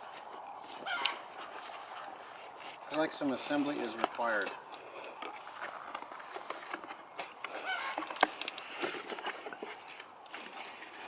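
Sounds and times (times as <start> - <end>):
rustling and scraping of packaging: 0.0 - 11.0.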